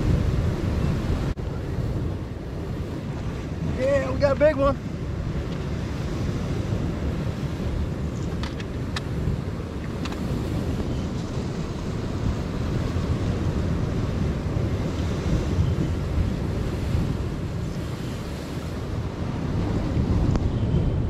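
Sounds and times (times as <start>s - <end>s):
surf on rocks: 0.0s - 21.0s
wind buffeting microphone: 0.0s - 21.0s.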